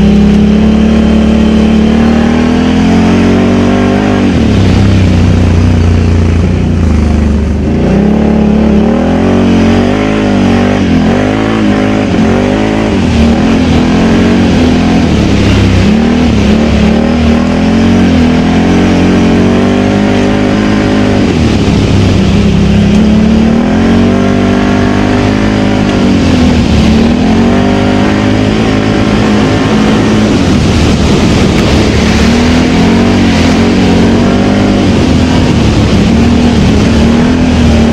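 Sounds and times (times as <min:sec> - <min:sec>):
atv engine revving: 0:00.0 - 0:37.9.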